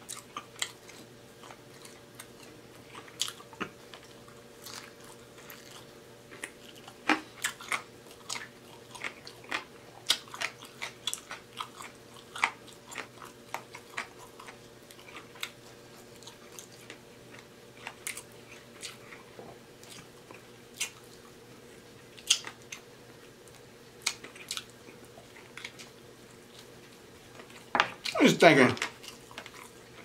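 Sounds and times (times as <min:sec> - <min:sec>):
chewing and biting chicken wings: 0:00.0 - 0:30.0.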